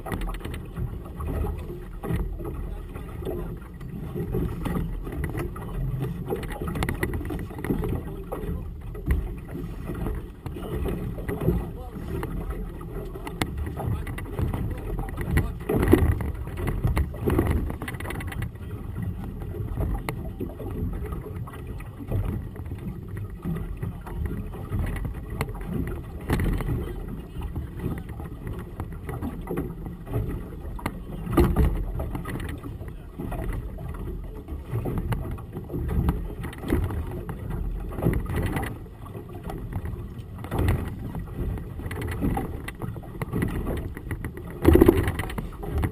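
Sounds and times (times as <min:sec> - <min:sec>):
water slapping boat hull: 0:00.0 - 0:45.9.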